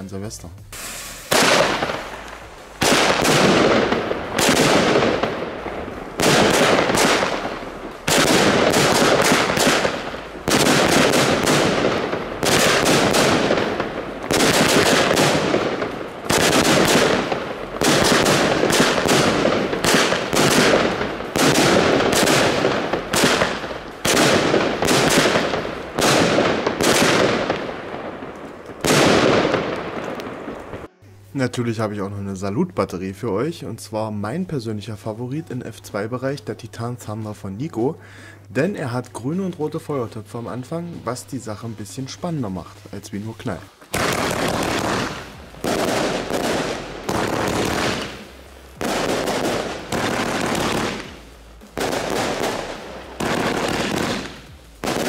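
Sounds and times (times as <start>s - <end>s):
firework bangs: 0.7s - 31.0s, 40.5s - 55.0s.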